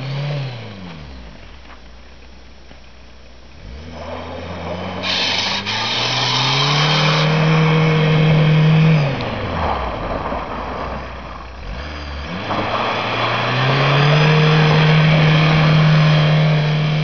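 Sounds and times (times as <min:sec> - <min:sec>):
diesel engine revving: 0:00.0 - 0:01.8, 0:03.4 - 0:17.0.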